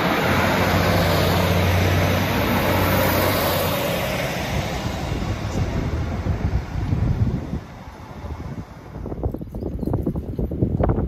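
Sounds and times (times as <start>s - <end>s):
diesel engine hum: 0.0s - 10.6s
rushing air: 0.0s - 11.0s
wheel-on-rail rumble: 0.0s - 11.0s.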